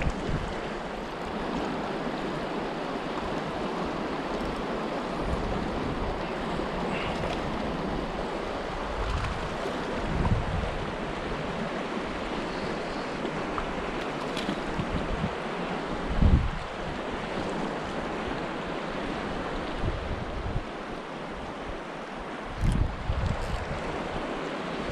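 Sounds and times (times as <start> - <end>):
river current over rocks: 0.0 - 24.9
wind gusts on microphone: 0.0 - 24.9.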